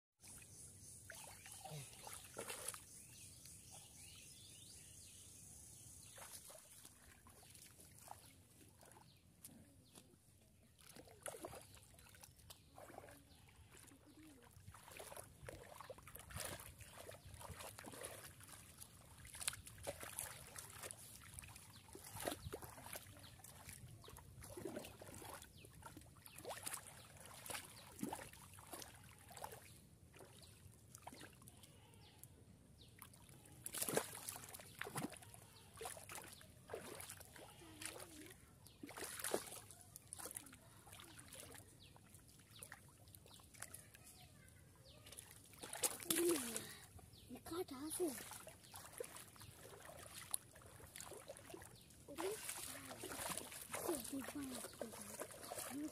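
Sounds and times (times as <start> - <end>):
water sloshing and splashing: 1.0 - 3.6, 6.0 - 32.2, 32.9 - 55.9.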